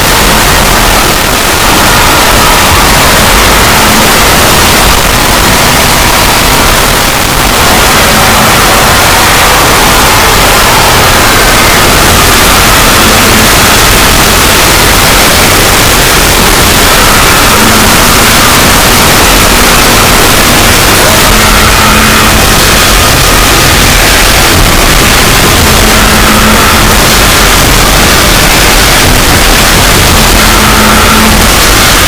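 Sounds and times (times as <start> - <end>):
harsh distorted noise: 0.0 - 32.0.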